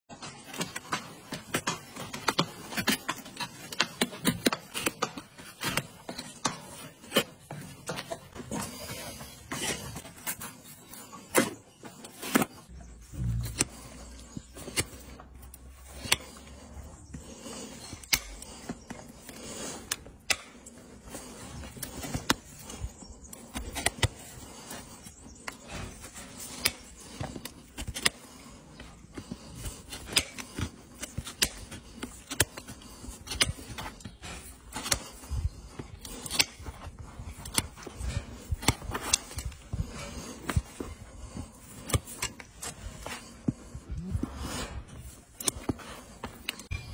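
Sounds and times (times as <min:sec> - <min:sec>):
knife cutting and scraping hoof: 0:00.1 - 0:46.9.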